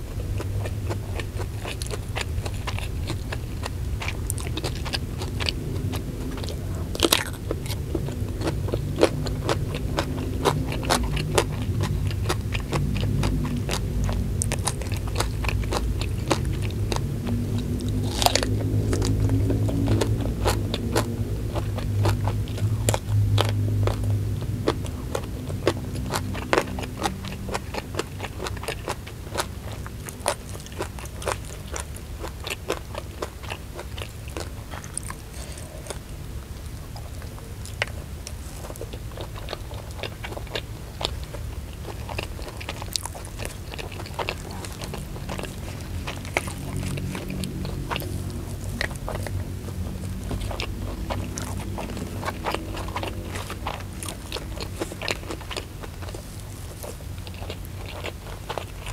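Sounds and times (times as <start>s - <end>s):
crisp bites and chewing: 0.2s - 58.9s.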